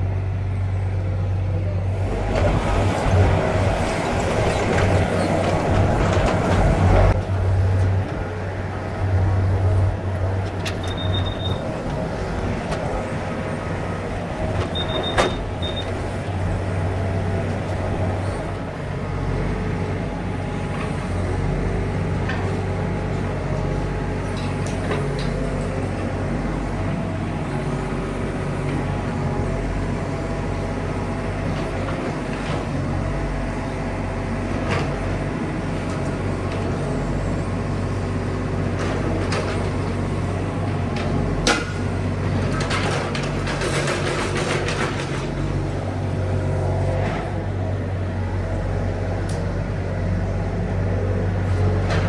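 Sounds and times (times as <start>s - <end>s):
heavy machine engine humming: 0.0s - 52.0s.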